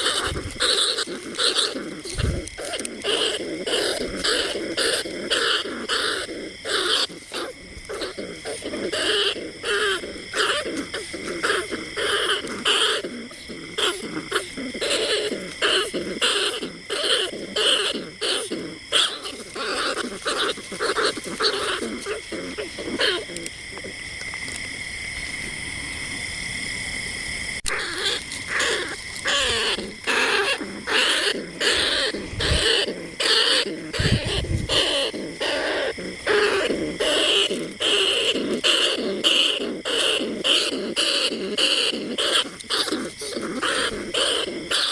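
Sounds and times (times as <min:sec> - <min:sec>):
rat calls: 0:00.0 - 0:24.6, 0:27.6 - 0:44.9.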